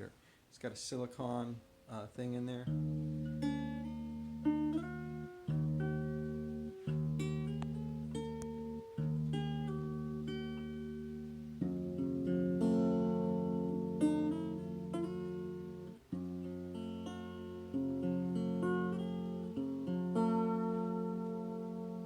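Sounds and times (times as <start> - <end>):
acoustic guitar chords and picking: 1.2 - 22.0.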